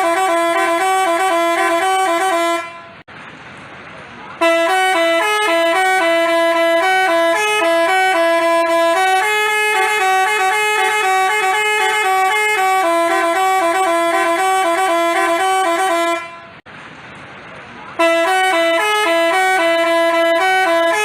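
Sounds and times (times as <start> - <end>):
multi-tone bus horn melody: 0.0 - 3.1, 4.4 - 16.6, 18.0 - 21.0.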